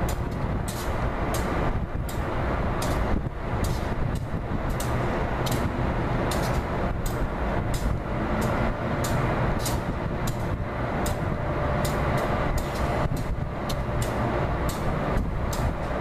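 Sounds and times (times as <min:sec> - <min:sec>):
locomotive rumbling: 0:00.0 - 0:16.0.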